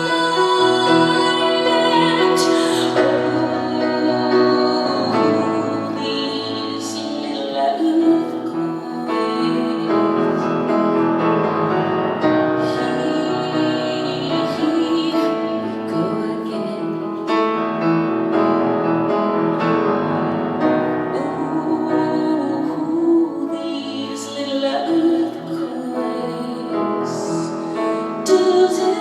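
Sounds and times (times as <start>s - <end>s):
piano playing chords: 0.0s - 29.0s.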